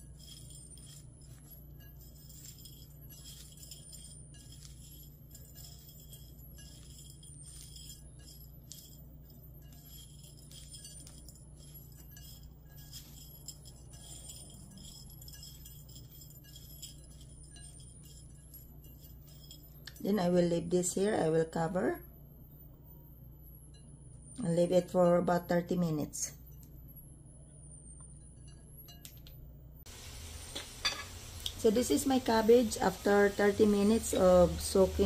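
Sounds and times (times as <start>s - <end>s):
faint tinkly music: 0.0s - 29.9s
steady low hum: 0.0s - 35.0s.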